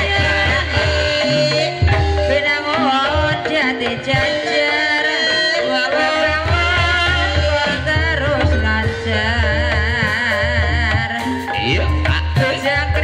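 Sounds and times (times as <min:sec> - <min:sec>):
drum kit: 0:00.0 - 0:13.0
gamelan music: 0:00.0 - 0:13.0
person singing: 0:00.0 - 0:13.0.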